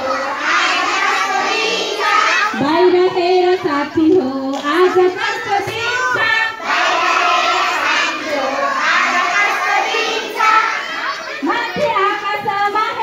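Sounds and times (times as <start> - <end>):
children singing together: 0.0 - 12.4.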